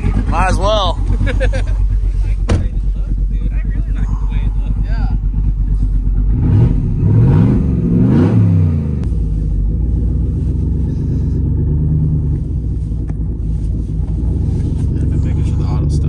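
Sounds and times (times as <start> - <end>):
engine revving and running: 0.0 - 16.0.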